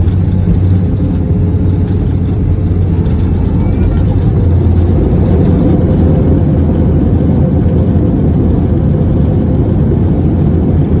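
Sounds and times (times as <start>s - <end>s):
jet engine noise in cabin: 0.0s - 11.0s
wheel rumble on runway: 0.0s - 11.0s.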